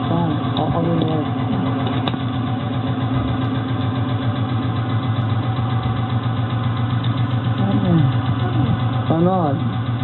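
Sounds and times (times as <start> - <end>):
car engine idling: 0.0 - 10.0
engine knocking: 0.0 - 10.0.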